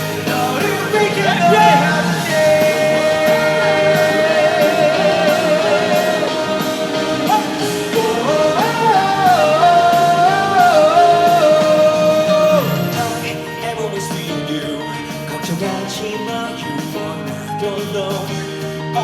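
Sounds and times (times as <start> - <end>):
lead vocal singing: 0.0 - 19.0
rock band playing: 0.0 - 19.0.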